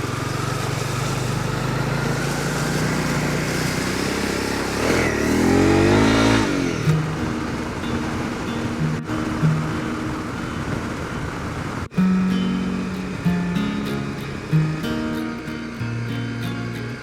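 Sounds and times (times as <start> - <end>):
motorcycle engine revving: 0.0 - 17.0
wind noise on microphone: 2.4 - 17.0.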